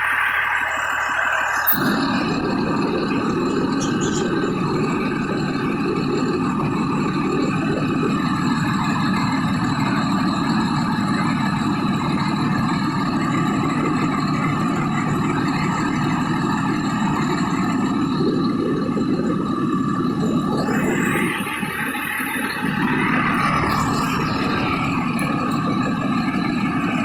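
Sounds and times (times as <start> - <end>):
faint steady tones: 0.0 - 27.0
vehicle engine rumbling: 0.0 - 27.0.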